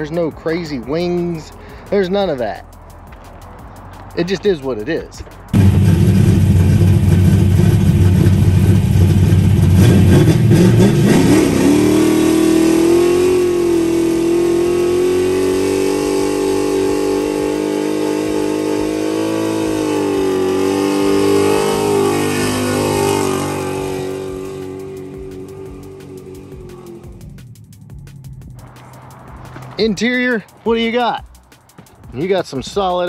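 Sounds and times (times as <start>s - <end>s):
tires spinning: 0.0s - 32.1s
car engine revving: 5.4s - 31.9s.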